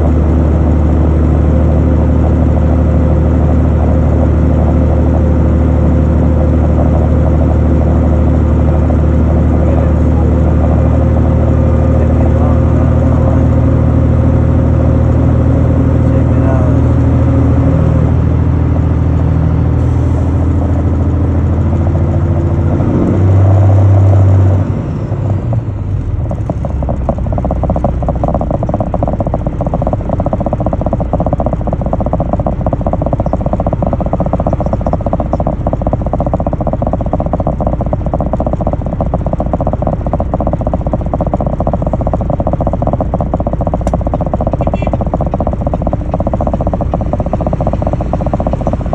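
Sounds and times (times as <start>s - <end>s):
diesel truck engine rattling: 0.0s - 48.9s
held low tones: 0.0s - 48.9s.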